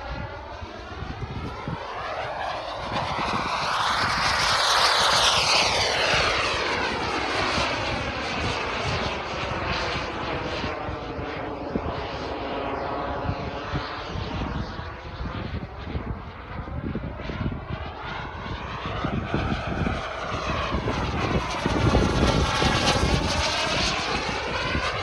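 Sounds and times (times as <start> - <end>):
model jet engine whine: 0.0 - 25.0
wind buffeting microphone: 0.0 - 25.0.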